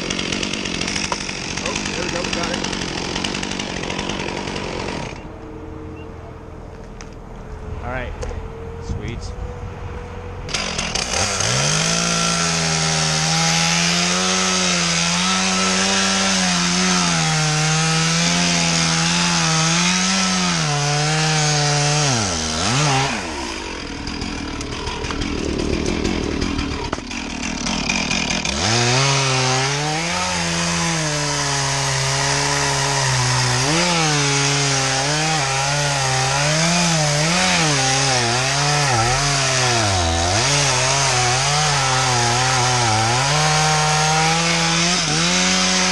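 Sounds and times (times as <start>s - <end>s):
chainsaw cutting wood: 0.0s - 5.3s, 10.5s - 45.9s.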